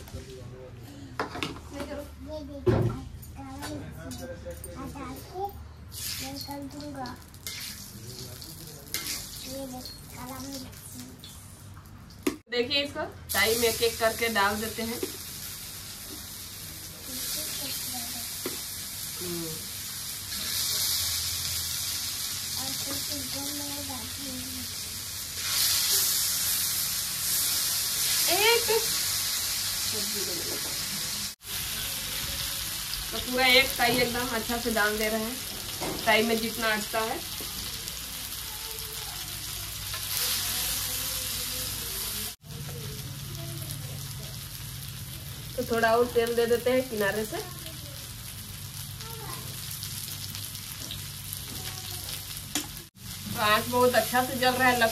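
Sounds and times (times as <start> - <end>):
frying in hot oil sizzle: 5.9 - 54.9.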